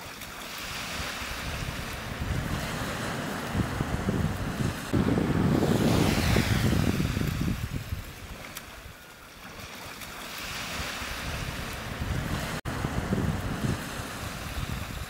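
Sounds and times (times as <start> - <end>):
surf washing on shore: 0.0 - 15.0
wind buffeting microphone: 0.9 - 9.0, 10.5 - 15.0.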